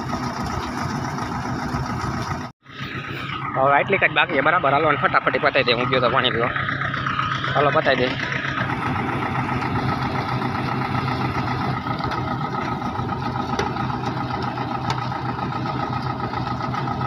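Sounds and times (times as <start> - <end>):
diesel tractor engine: 0.0 - 17.0
thresher mechanical drone: 0.0 - 17.0.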